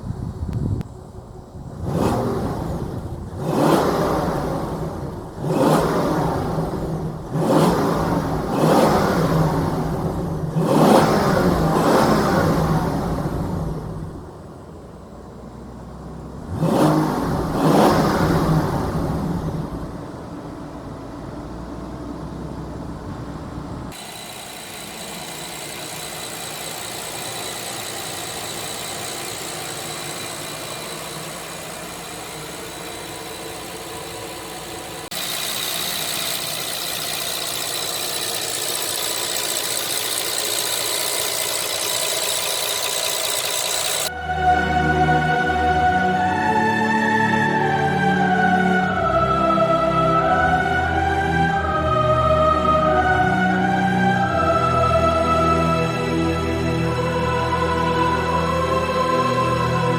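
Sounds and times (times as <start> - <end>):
car driving rush with whine: 0.0 - 59.9
car engine revving: 1.7 - 14.3, 15.5 - 59.9.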